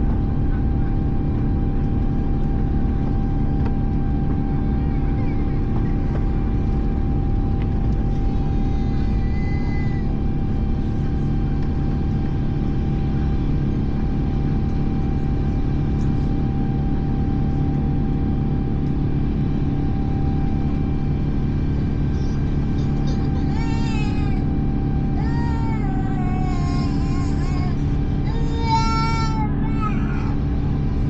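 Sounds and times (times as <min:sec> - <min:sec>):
airplane cabin engine rumble: 0:00.0 - 0:31.0.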